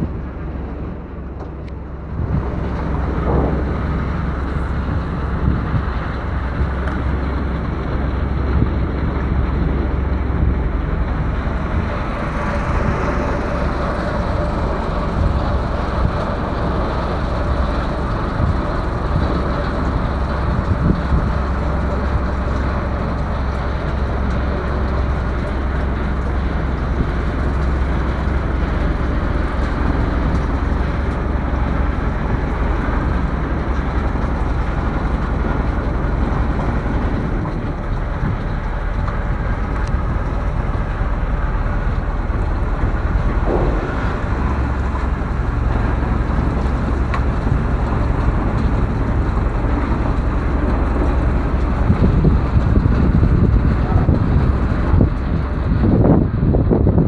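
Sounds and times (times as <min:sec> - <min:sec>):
boat engine drone: 0:00.0 - 0:57.0
rushing water: 0:00.0 - 0:57.0
wind: 0:00.0 - 0:57.0.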